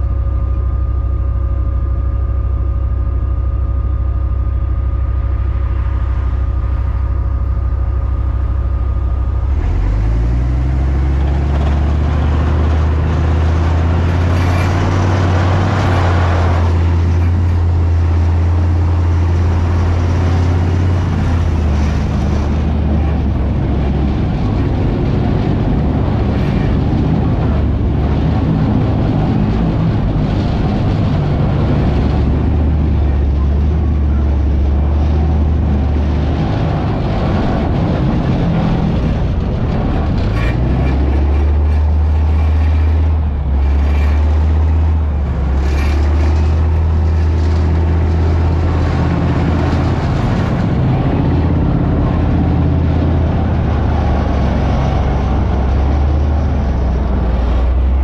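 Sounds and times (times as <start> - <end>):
tank diesel engine: 0.0 - 58.0.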